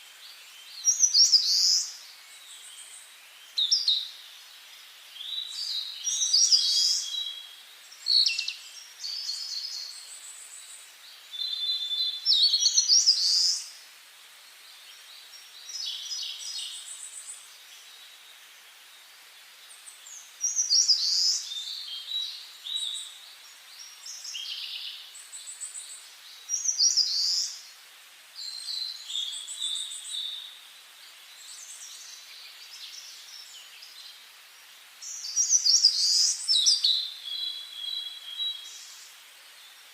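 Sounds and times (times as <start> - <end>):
faint outdoor hiss: 0.0 - 39.9
songbirds chirping and trilling: 0.0 - 39.9.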